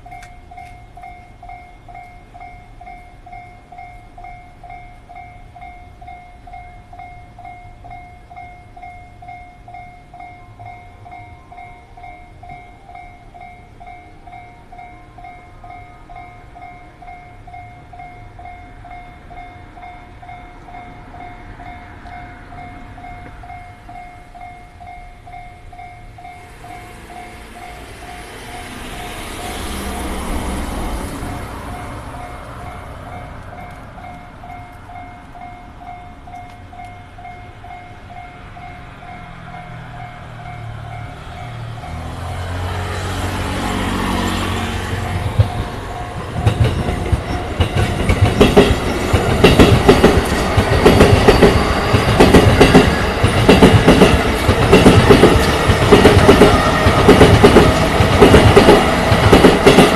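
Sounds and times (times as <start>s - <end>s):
level crossing warning bell ringing: 0.0s - 59.9s
train passing: 0.0s - 59.9s.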